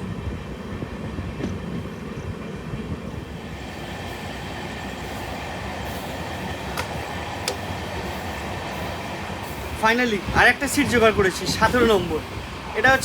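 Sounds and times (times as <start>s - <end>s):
passenger train running rumble: 0.0s - 13.0s.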